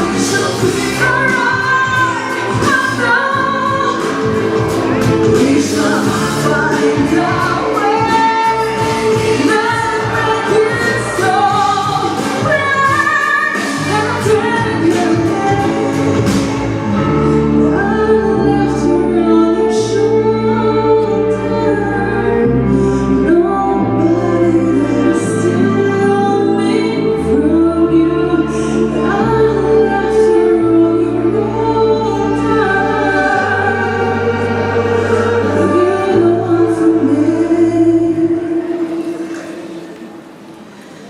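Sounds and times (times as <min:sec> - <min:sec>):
steady bass line: 0:00.0 - 0:38.7
woman singing: 0:00.0 - 0:40.0
instrumental accompaniment: 0:00.0 - 0:41.0.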